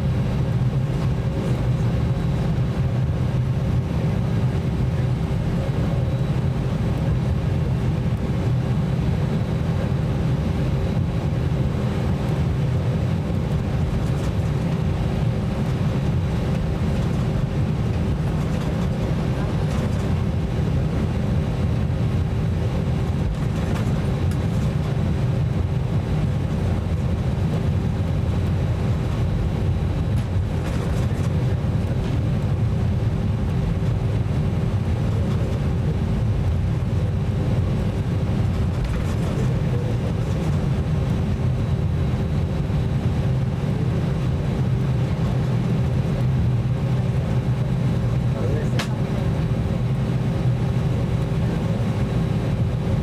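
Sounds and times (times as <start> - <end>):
aircraft cabin rumble: 0.0 - 53.0
steady mid-pitched hum: 0.0 - 53.0.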